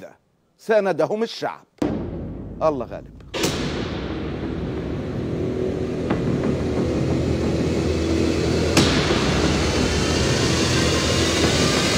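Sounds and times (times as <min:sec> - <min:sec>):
low hum: 0:01.8 - 0:11.9.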